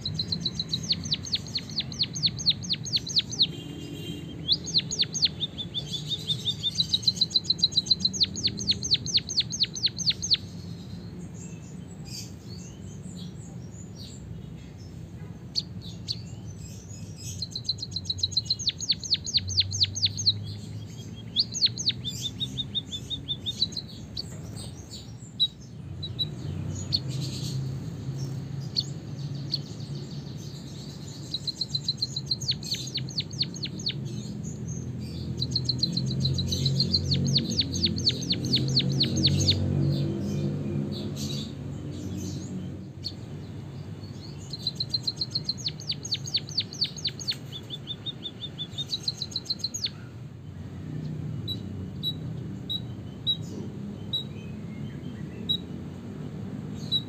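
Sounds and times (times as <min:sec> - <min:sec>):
bird singing rapid trills: 0:00.0 - 0:57.0.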